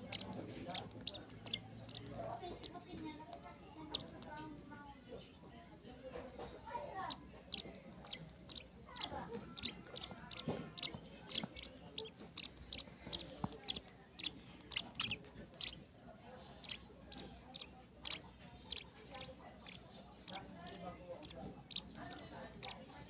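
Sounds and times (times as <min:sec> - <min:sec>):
bird chick clicking squeaks: 0:00.0 - 0:02.9, 0:03.8 - 0:04.4, 0:07.0 - 0:15.9, 0:16.5 - 0:22.9.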